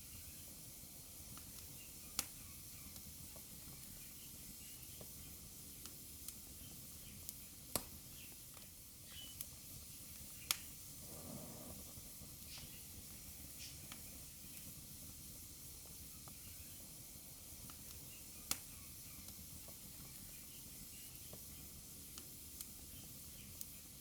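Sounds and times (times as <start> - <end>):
wood fire crackling and popping: 1.2 - 23.8.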